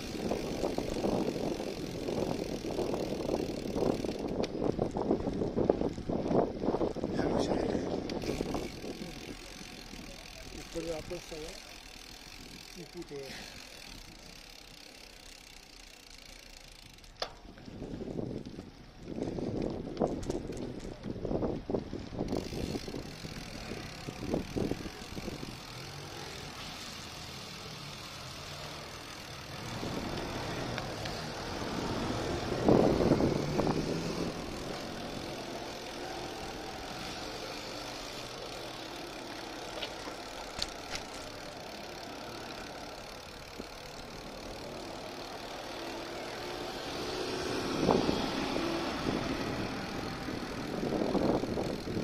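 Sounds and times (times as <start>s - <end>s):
cars passing: 0.0s - 17.0s, 21.7s - 52.0s.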